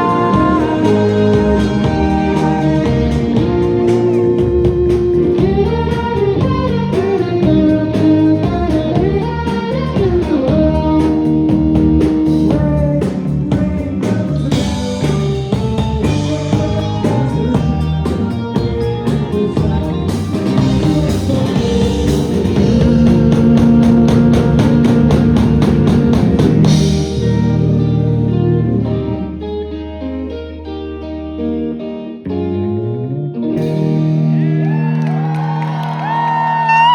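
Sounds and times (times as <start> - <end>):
drum kit: 0.0 - 28.0, 33.6 - 36.9
electric guitar: 0.0 - 36.9.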